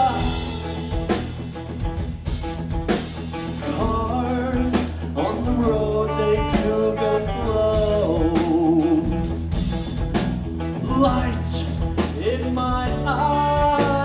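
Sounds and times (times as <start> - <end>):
bending lead guitar notes: 0.0 - 12.0
live rock band playing: 0.0 - 14.0.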